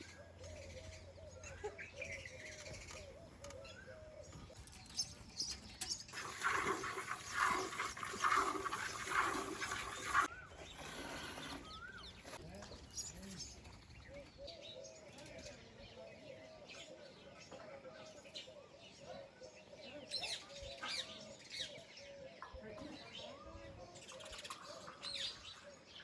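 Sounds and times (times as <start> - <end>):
birds: 0.0 - 26.0.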